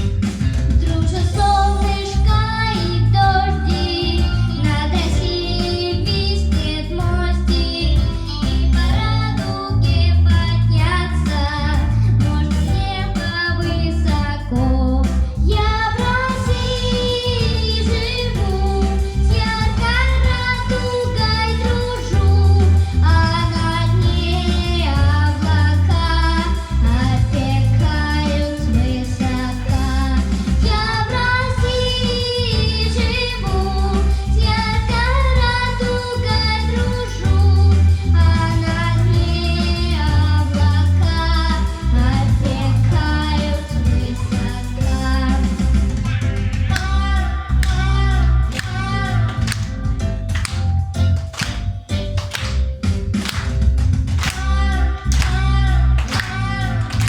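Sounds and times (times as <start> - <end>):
backing track with steady beat: 0.0 - 57.0
girl singing a children's song: 0.7 - 46.0, 46.6 - 50.6, 54.2 - 57.0.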